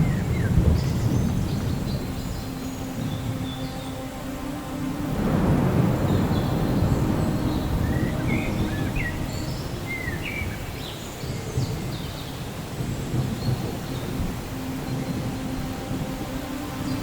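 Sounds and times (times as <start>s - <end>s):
birds chirping: 0.0s - 17.0s
rolling thunder: 0.0s - 17.0s.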